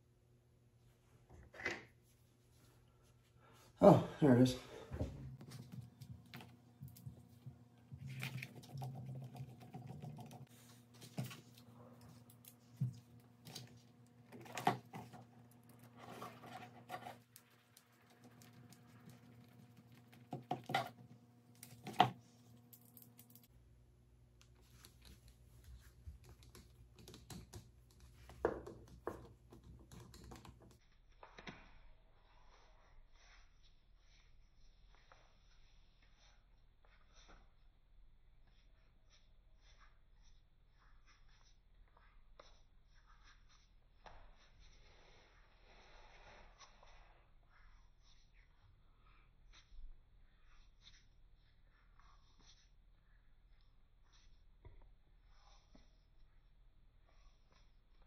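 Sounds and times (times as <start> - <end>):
faint electrical hum: 0.0 - 58.0.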